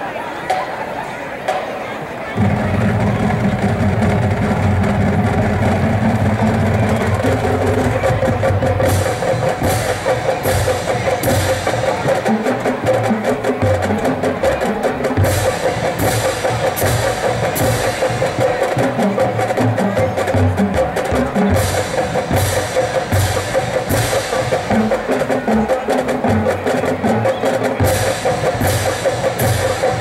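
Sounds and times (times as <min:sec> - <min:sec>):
snare and tenor drums: 0:01.5 - 0:30.0
pitched bass drums: 0:02.4 - 0:26.4, 0:27.0 - 0:30.0.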